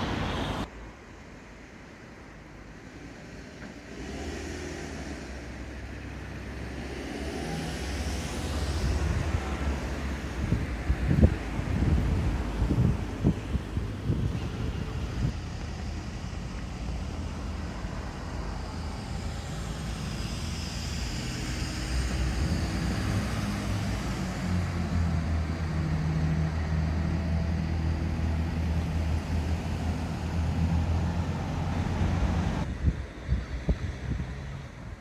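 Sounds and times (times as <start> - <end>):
vehicle engine humming: 0.0 - 32.9.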